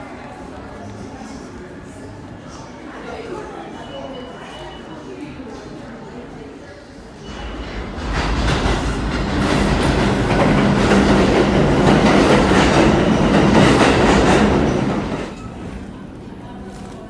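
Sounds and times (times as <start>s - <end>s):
subway train on rails: 0.0s - 17.0s.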